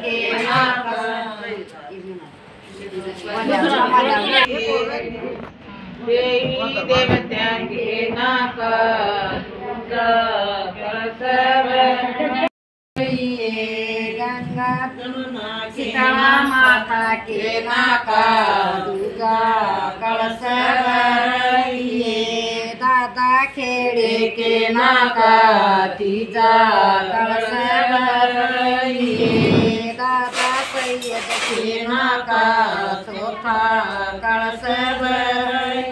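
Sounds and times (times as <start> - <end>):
women singing chanting melody: 0.0 - 1.7, 6.0 - 35.9.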